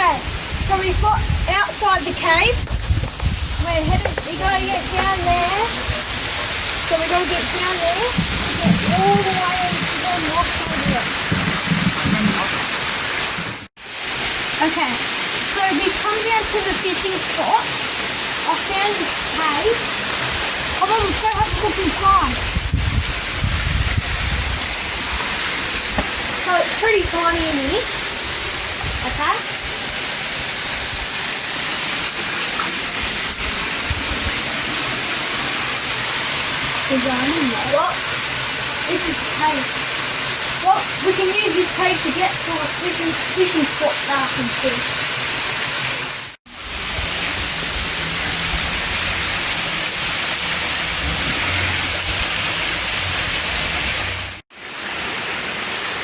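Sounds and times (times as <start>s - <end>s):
waterfall roaring: 0.0s - 22.6s, 24.6s - 56.0s.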